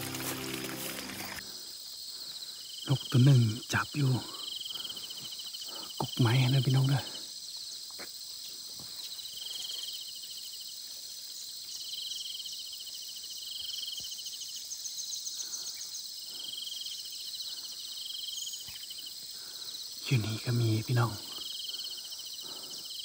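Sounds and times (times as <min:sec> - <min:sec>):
insects shrill buzzing: 0:00.0 - 0:23.0
pulsing insect trills: 0:00.0 - 0:23.0.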